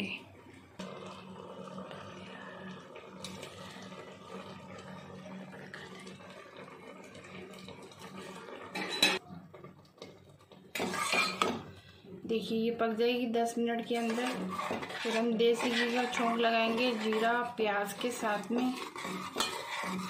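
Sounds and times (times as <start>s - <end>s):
lentils bubbling in a pot: 0.0s - 20.0s.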